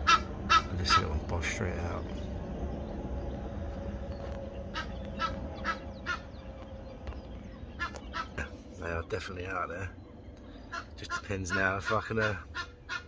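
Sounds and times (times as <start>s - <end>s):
bird calling: 0.0s - 13.0s.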